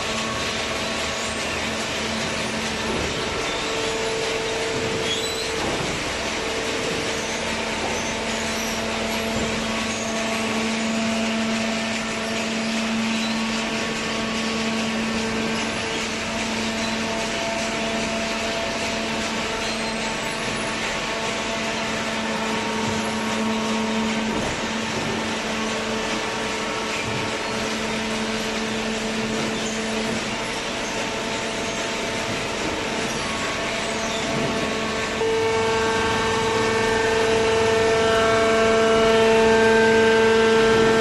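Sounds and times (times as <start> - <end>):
hydraulic baler motor humming: 0.0 - 41.0.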